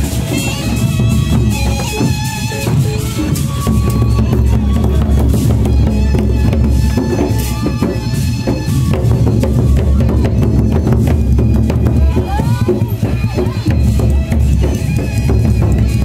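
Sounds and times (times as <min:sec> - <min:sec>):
barrel drums beaten together: 0:00.0 - 0:16.0.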